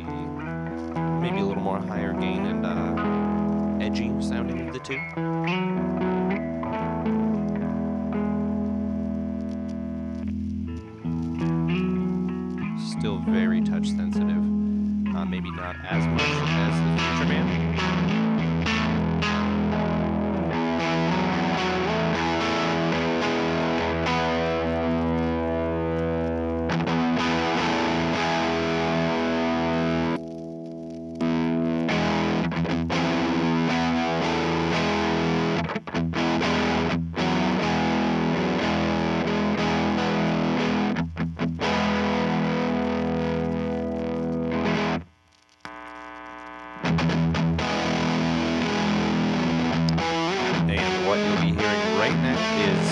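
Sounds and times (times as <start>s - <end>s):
distorted electric guitar: 0.0s - 52.9s.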